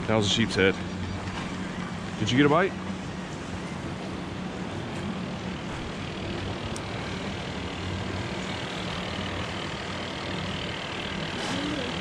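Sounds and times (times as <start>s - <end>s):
distant engines droning: 0.0s - 12.0s.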